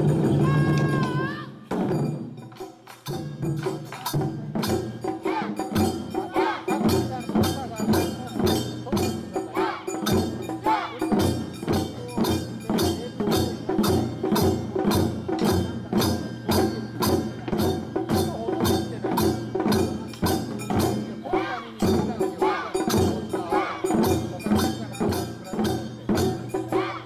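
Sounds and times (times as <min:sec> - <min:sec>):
drum ensemble playing driving beat: 0:00.0 - 0:27.0.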